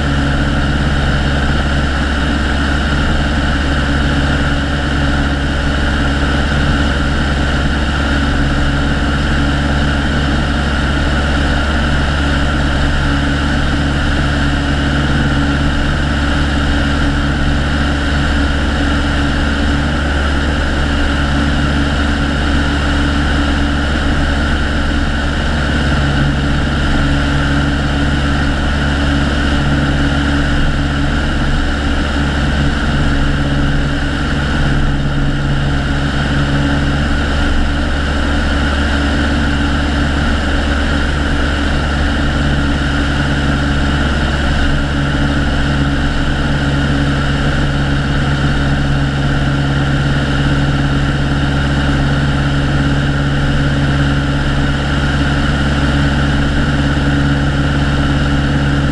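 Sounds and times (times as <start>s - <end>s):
airplane engine drone: 0.0s - 58.9s.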